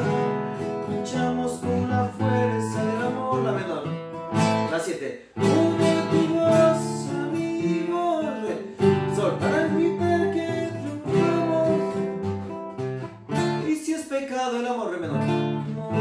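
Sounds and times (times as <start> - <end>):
man singing: 0.0 - 12.4, 13.4 - 16.0
nylon-string guitar strummed: 0.0 - 14.3, 15.0 - 16.0.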